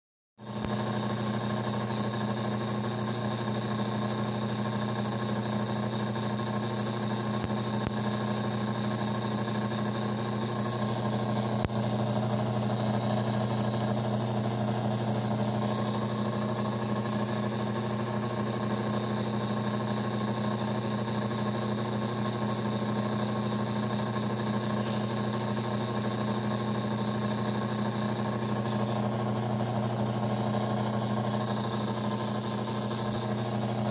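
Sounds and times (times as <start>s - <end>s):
lathe motor humming: 0.6s - 33.9s.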